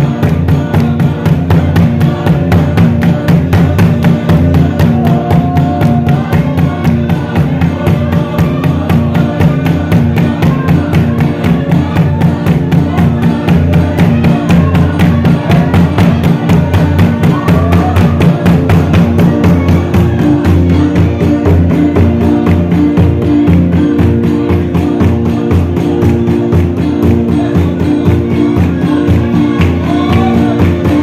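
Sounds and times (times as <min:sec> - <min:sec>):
barrel drum: 0:00.0 - 0:31.0
congregation singing: 0:00.0 - 0:31.0
fast steady drumbeat: 0:00.0 - 0:31.0.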